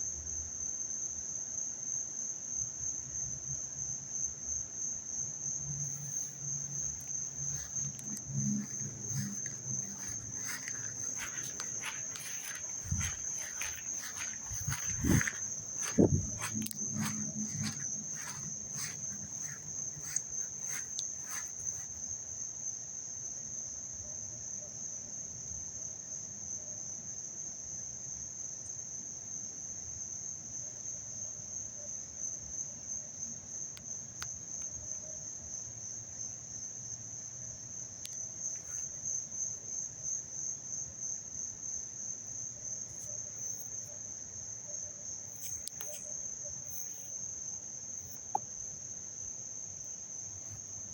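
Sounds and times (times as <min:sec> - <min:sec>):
insects trilling: 0:01.6 - 0:26.5, 0:27.9 - 0:50.9.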